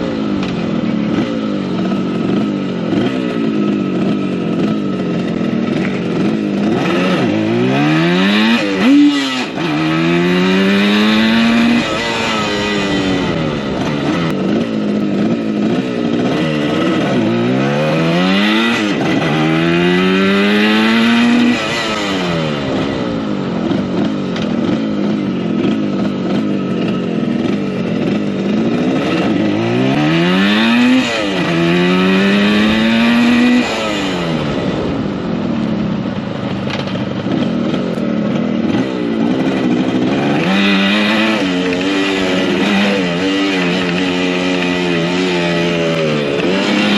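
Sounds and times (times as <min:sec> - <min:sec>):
two-stroke motorcycle engine accelerating: 0:00.0 - 0:46.9.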